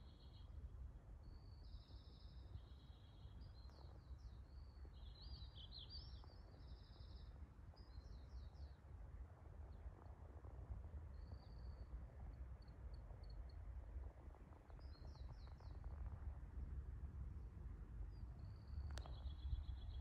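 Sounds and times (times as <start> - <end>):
faint low rumble: 0.0 - 20.0.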